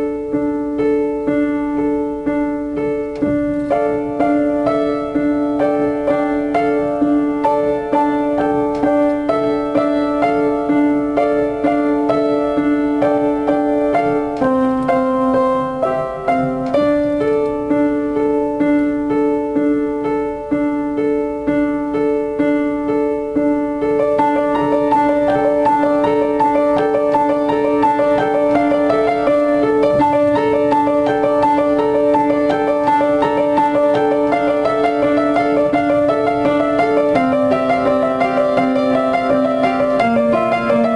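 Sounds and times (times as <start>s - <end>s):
upright piano repeated notes: 0.0s - 40.9s.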